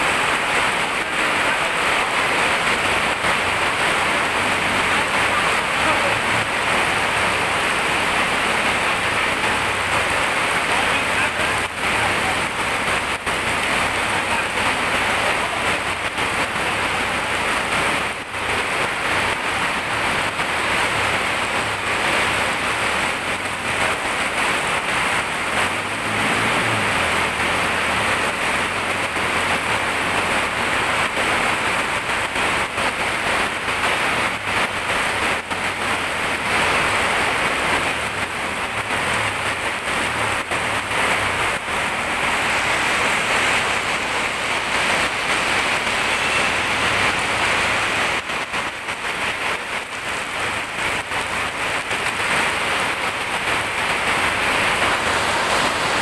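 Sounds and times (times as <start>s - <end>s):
heavy rain on wet road: 0.0s - 56.0s.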